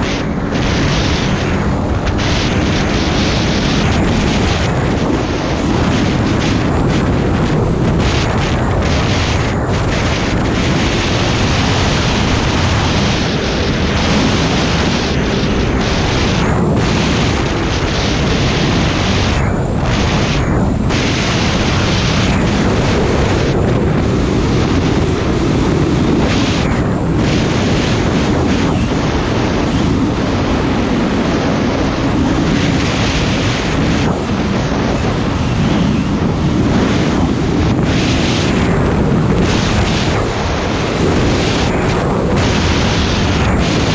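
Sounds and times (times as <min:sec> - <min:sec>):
snowmobile engine drone: 0:00.0 - 0:43.9
wind rumble on microphone: 0:00.0 - 0:43.9.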